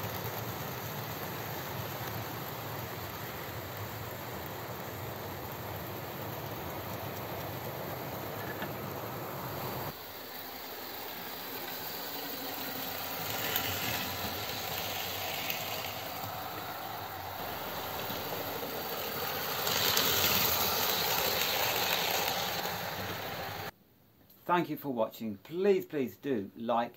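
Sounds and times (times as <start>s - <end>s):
model trains rattling and whirring: 0.0s - 23.7s.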